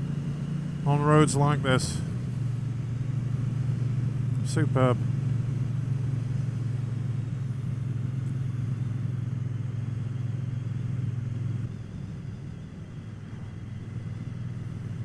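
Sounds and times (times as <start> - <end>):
motorcycle engine drone: 0.0 - 15.0.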